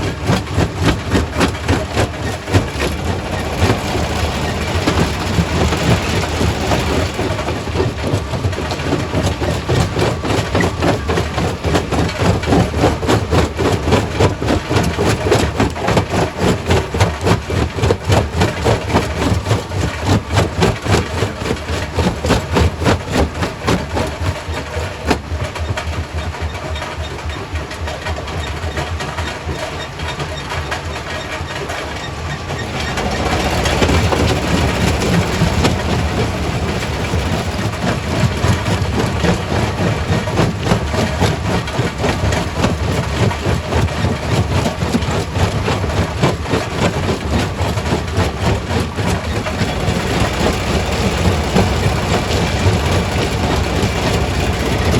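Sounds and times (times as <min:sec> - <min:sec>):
rock crusher running: 0:00.0 - 0:54.9.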